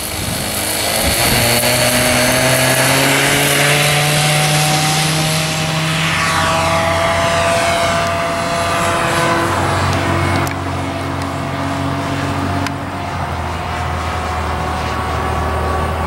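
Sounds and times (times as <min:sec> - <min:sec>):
model airplane engine at full throttle: 0:00.0 - 0:16.0.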